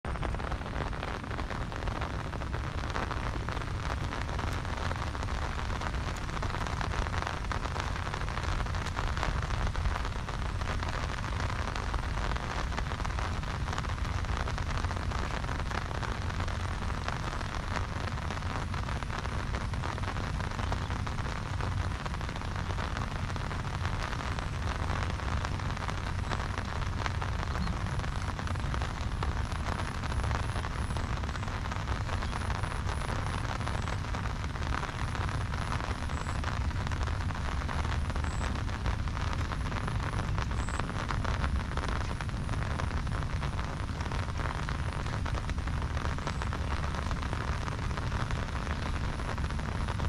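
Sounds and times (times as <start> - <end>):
heavy rain hissing: 0.0 - 50.0
low rumble: 0.0 - 50.0.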